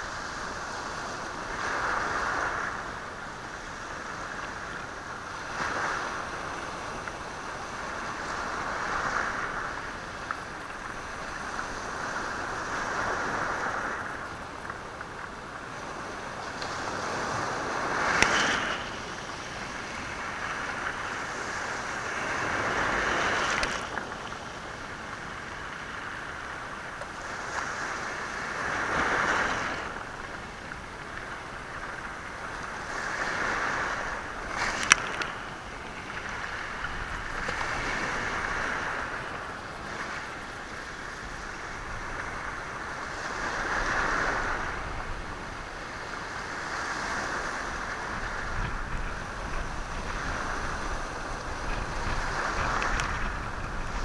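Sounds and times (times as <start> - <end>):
sea waves on stony shore: 0.0 - 54.0.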